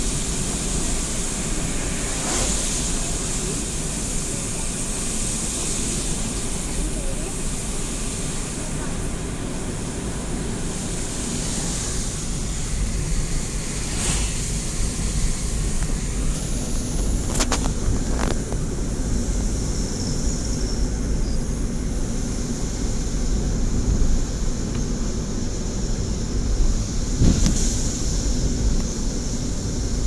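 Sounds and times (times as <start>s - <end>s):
car tyres and engine rumble: 0.0s - 30.0s.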